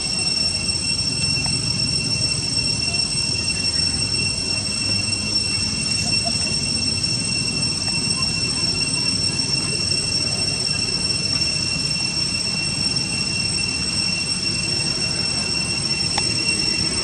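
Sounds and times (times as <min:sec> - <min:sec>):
night insects droning: 0:00.0 - 0:17.0.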